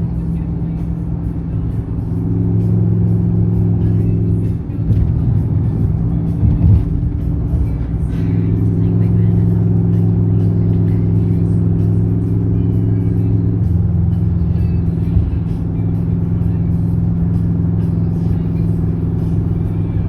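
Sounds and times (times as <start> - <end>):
car road and engine drone: 0.0 - 20.0
music playing: 0.0 - 20.0.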